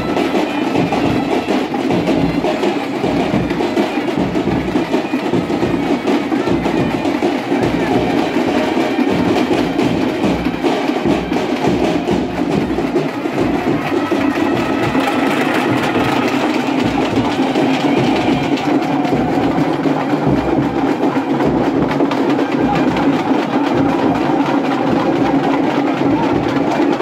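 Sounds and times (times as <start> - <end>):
fast loud drumming: 0.0 - 27.0.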